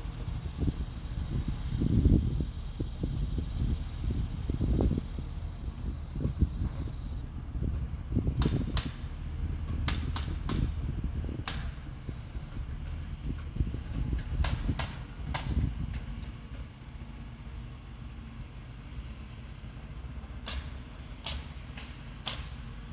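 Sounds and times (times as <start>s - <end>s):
steady low rumble: 0.0s - 22.9s.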